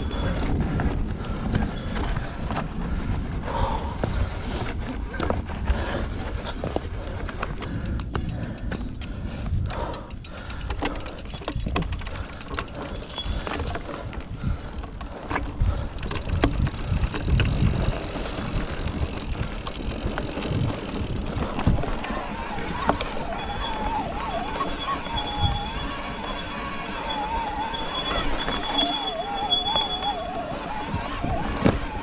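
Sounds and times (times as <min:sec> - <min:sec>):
bike knocking and rattling: 0:00.0 - 0:32.0
bike tyres rumbling on dirt trail: 0:00.0 - 0:32.0.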